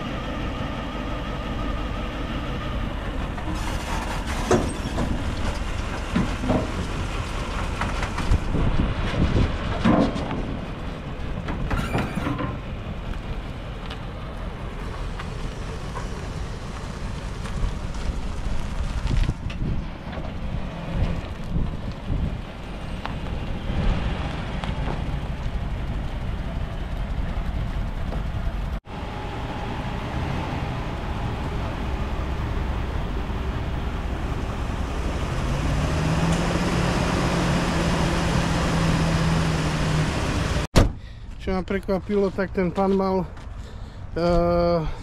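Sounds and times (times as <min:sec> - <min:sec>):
wind gusting on microphone: 0:03.2 - 0:14.7, 0:15.6 - 0:40.7.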